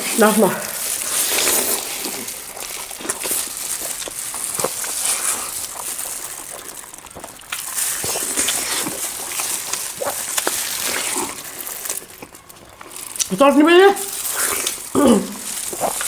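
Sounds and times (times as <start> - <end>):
close-miked chewing: 0.0 - 16.0.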